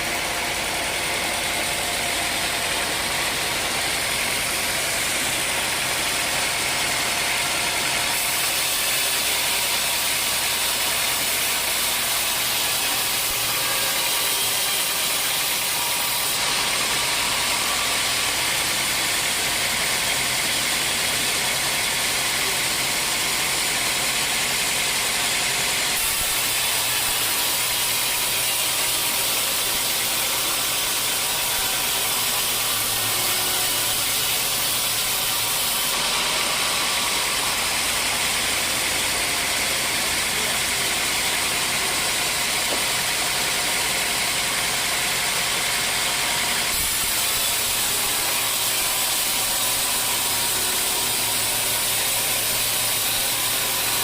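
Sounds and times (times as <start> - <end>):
saw blade hissing through wood: 0.0 - 24.1, 25.8 - 54.0.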